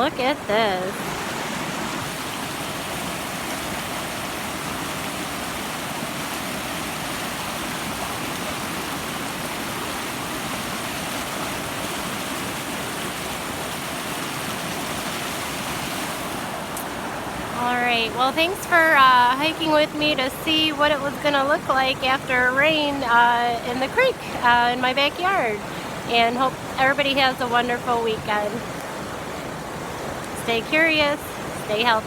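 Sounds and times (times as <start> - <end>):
creek rushing: 0.0 - 32.0.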